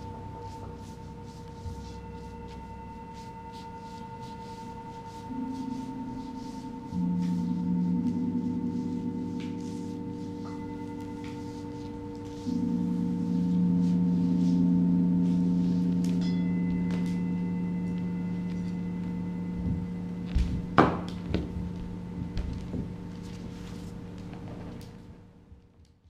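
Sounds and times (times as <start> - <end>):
singing bowls ringing: 0.0 - 24.8.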